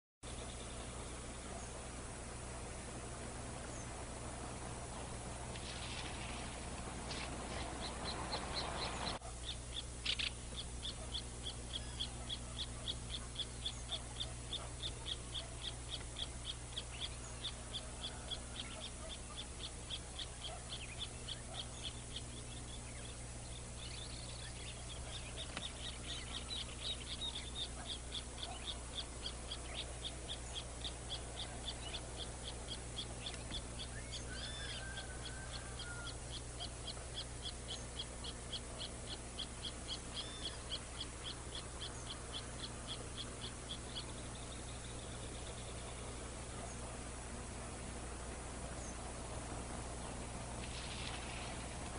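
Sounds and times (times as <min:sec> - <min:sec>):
constant low hum: 0:00.2 - 0:51.9.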